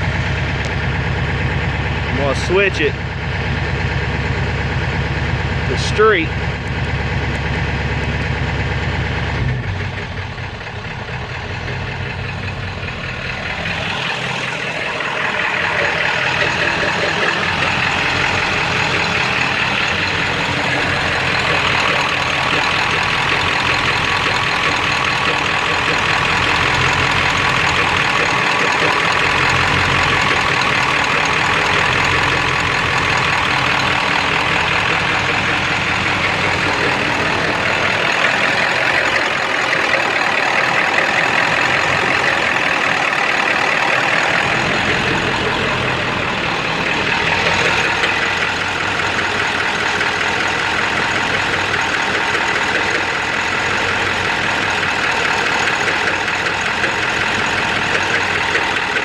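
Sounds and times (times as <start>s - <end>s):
diesel engine idling roughly: 0.0s - 59.0s
higher-pitched engine running: 0.0s - 59.0s.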